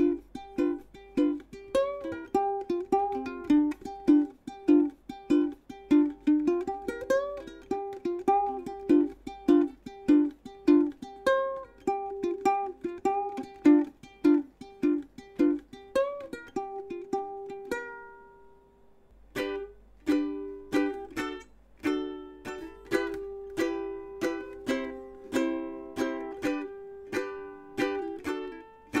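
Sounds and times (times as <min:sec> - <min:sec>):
ukulele strummed: 0:00.0 - 0:29.0.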